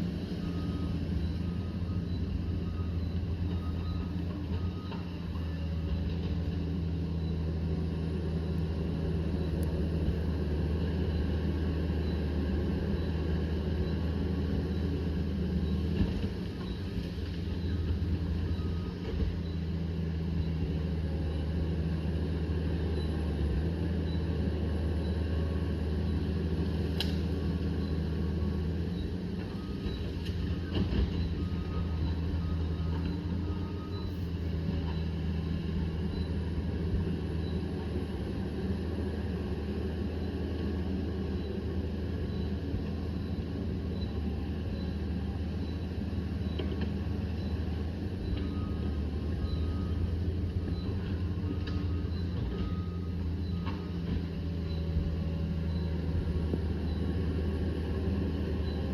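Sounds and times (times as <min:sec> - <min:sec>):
bulldozer diesel engine droning: 0:00.0 - 0:58.9.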